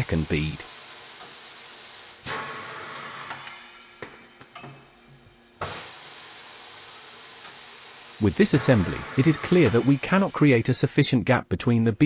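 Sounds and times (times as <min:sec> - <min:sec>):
compressed air hissing: 0:00.0 - 0:11.1.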